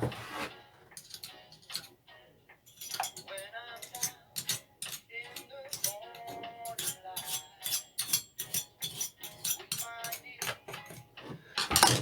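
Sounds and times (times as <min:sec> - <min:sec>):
metal tools clinking and rattling: 0:00.9 - 0:02.0, 0:02.7 - 0:12.0.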